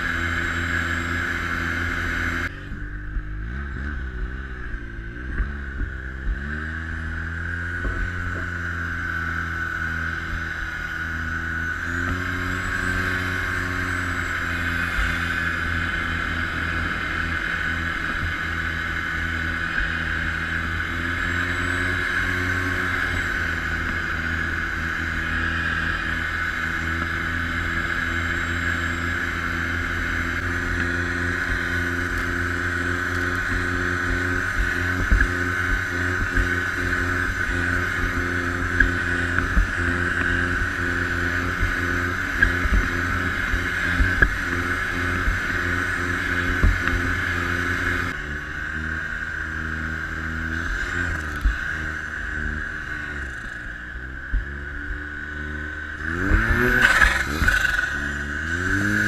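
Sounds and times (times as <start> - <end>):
high whine: 0.0 - 59.0
snowmobile engine running: 0.0 - 59.0.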